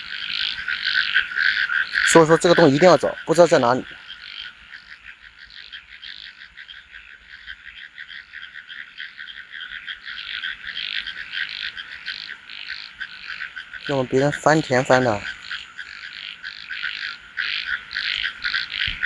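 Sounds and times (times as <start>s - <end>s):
chorus of frogs calling: 0.0s - 19.0s.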